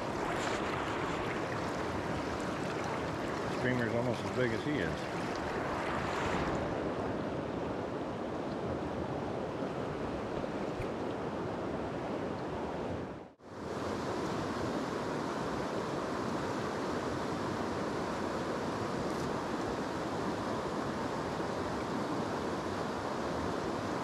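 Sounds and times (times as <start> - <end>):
river water over rapids: 0.0 - 24.0.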